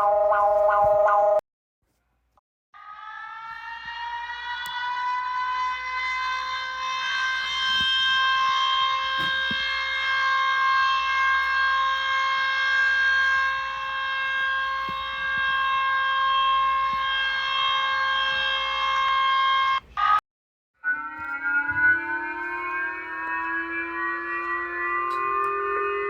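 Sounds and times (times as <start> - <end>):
siren steady tone: 0.0 - 1.4, 2.8 - 20.2, 20.8 - 26.0
siren winding up in pitch: 0.0 - 1.4, 2.8 - 20.2, 20.8 - 26.0.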